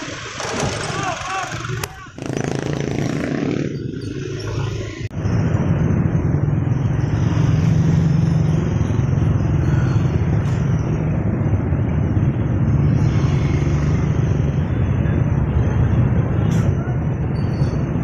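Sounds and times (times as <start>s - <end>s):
motorcycle traffic engine drone: 0.0s - 18.0s.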